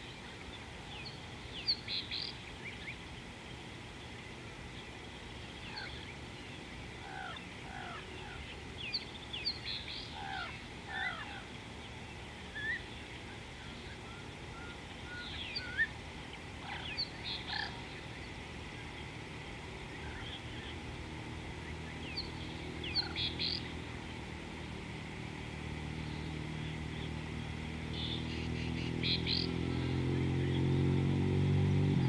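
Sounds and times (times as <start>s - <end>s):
wild birds chirping: 0.0s - 32.0s.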